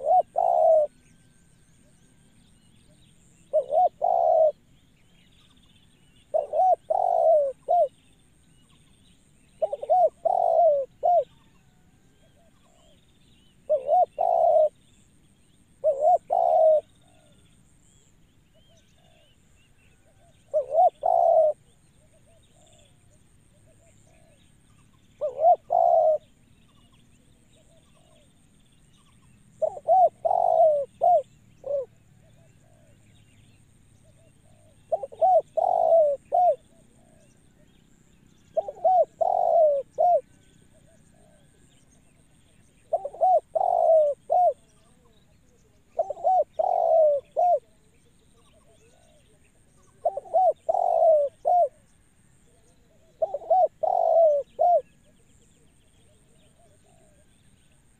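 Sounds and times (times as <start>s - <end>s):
dove cooing: 0.0s - 1.2s, 1.8s - 4.7s, 5.4s - 8.4s, 9.5s - 28.4s, 29.1s - 57.4s.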